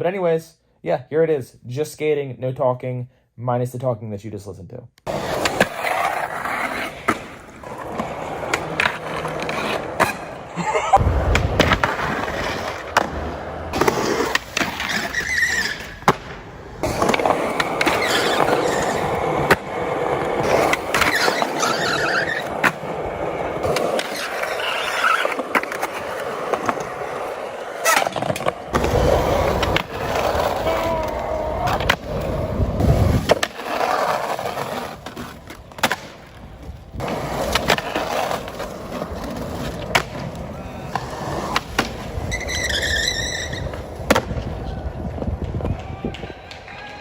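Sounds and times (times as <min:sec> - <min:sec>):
skateboard popping and landing: 0:05.0 - 0:46.6
skateboard wheels rolling: 0:05.0 - 0:47.0.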